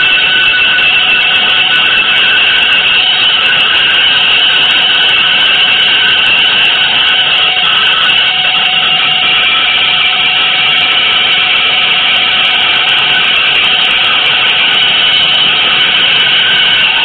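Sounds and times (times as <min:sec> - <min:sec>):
harsh hissing noise: 0:00.0 - 0:17.0.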